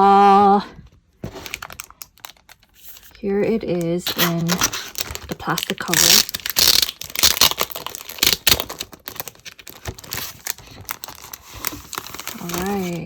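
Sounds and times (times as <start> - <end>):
plastic cover crinkling: 0.8 - 13.0.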